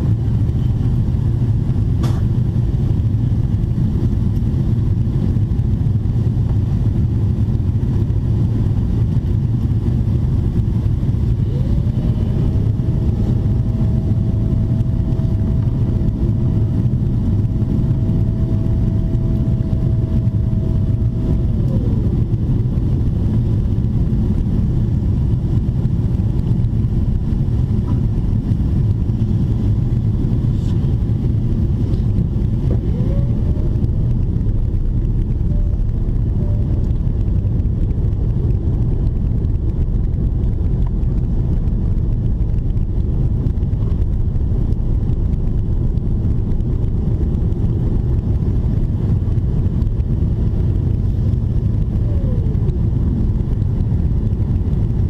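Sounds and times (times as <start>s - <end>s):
aircraft cabin roar: 0.0s - 55.0s
mid-pitched whine: 0.0s - 55.0s.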